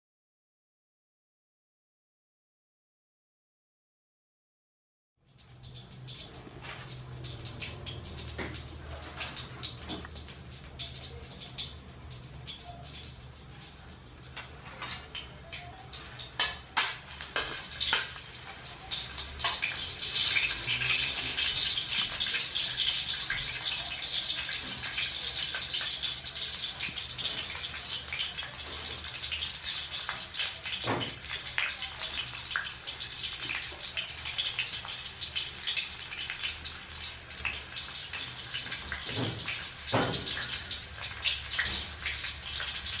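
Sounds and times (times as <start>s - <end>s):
hot oil sizzling in a wok: 5.2s - 43.0s.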